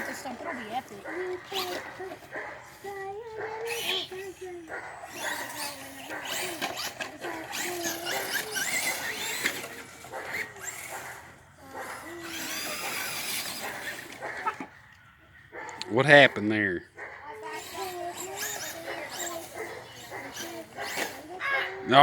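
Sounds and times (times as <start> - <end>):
electric motor whining: 0.0 - 14.7, 17.4 - 22.0
toy truck moving: 0.0 - 14.8, 17.0 - 22.0.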